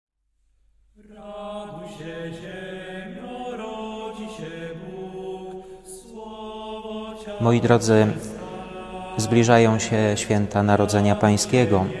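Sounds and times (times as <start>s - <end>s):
slow chant-like voices: 1.0s - 12.0s.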